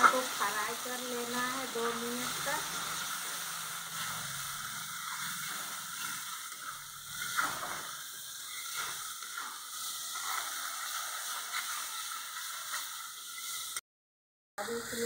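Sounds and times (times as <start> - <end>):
masala sizzling in a pan: 0.0 - 13.8, 14.6 - 15.0
metal spatula scraping a pan: 1.1 - 13.8.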